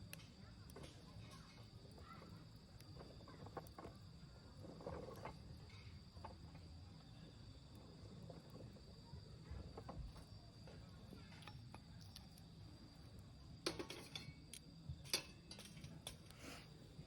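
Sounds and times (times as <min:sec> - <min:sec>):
high insect trill: 0:00.0 - 0:17.0
small pops of fire: 0:00.0 - 0:17.0
wood fire crackling: 0:00.0 - 0:17.0.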